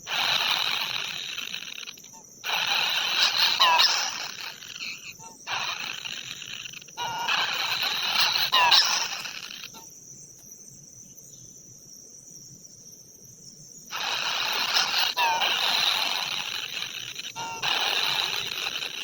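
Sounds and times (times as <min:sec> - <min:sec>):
insect chorus: 0:00.0 - 0:19.0.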